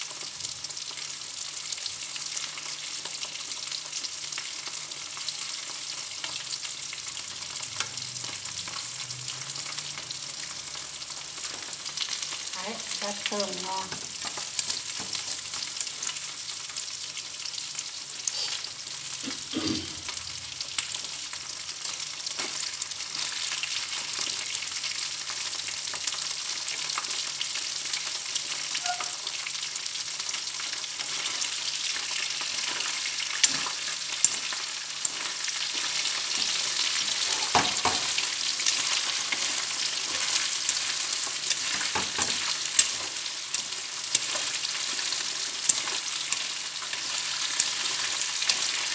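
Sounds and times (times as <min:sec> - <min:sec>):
shrimp sizzling in hot oil: 0:00.0 - 0:48.9.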